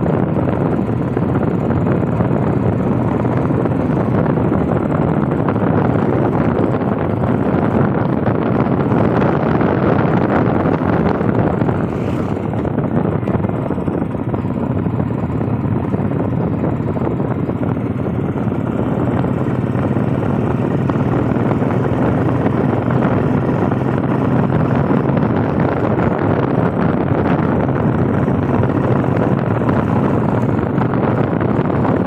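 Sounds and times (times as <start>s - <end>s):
motorcycle engine running: 0.0s - 32.0s
wind rushing over microphone: 0.0s - 32.0s.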